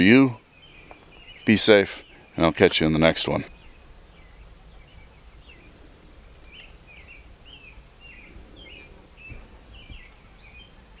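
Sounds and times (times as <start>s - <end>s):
small bird chirping: 0.4s - 5.8s, 6.4s - 11.0s.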